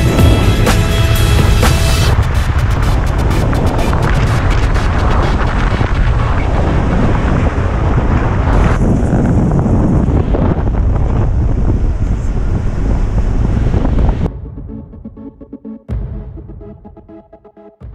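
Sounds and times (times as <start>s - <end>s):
wind buffeting microphone: 0.0s - 14.4s
low road rumble: 0.0s - 17.1s.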